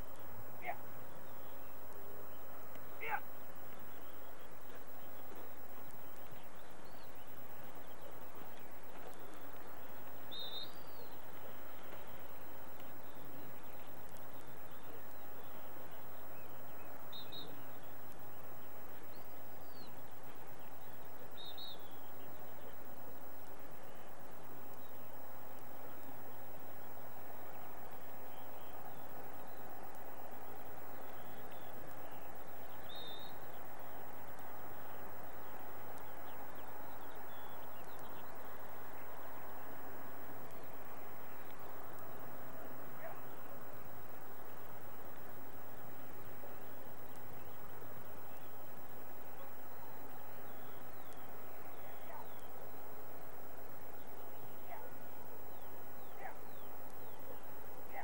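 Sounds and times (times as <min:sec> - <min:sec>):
open-field background noise: 0:00.0 - 0:58.0
outdoor background rush: 0:00.0 - 0:58.0
bird chirps and warbles: 0:00.6 - 0:29.8, 0:30.7 - 0:39.8, 0:42.6 - 0:58.0.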